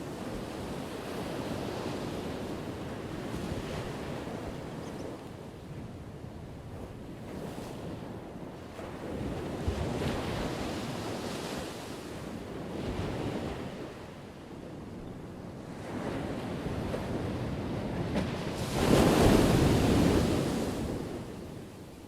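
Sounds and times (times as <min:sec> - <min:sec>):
ocean waves crashing on shore: 0:00.0 - 0:22.0.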